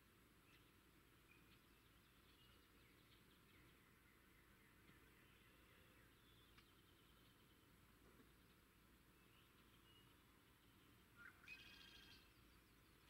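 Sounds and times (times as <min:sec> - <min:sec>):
low steady hiss: 0:00.0 - 0:13.0
faint bird chirps: 0:00.4 - 0:13.0.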